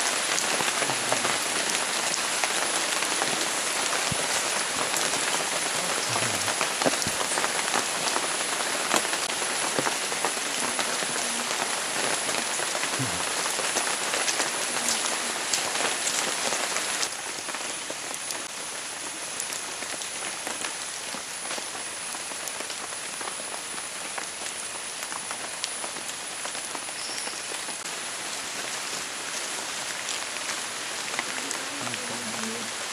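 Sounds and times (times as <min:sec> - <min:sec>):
rain pattering on leaves: 0:00.0 - 0:32.9.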